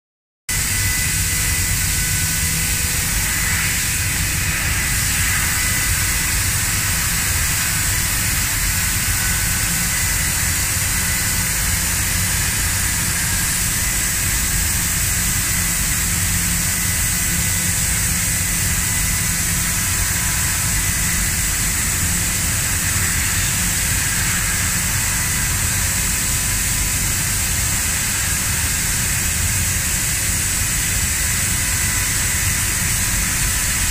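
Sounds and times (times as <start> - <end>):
laser cutter hissing: 0.5 - 33.9.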